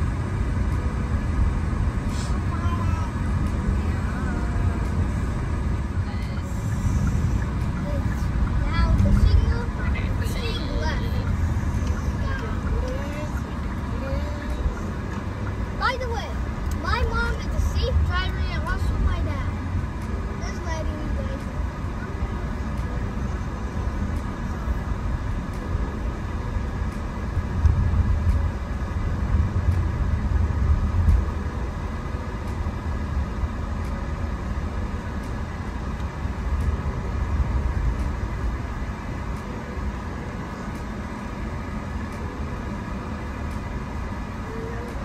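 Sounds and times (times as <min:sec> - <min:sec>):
road and engine rumble: 0:00.0 - 0:45.0.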